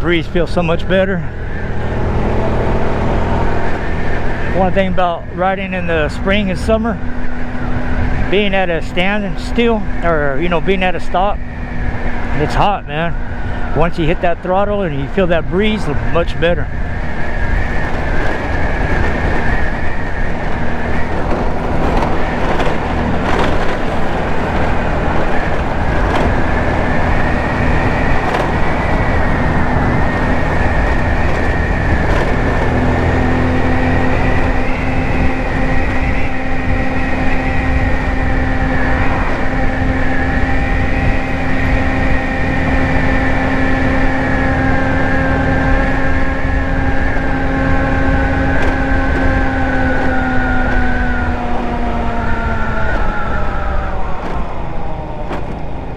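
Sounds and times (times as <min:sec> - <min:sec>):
high whine: 0:00.0 - 0:55.9
scooter engine running: 0:00.0 - 0:55.9
wind rushing over microphone: 0:00.0 - 0:55.9.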